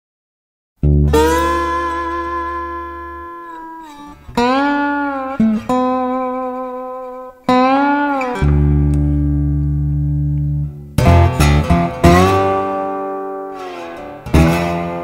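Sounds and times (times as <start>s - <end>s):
slide guitar playing slow blues: 0.8s - 15.0s.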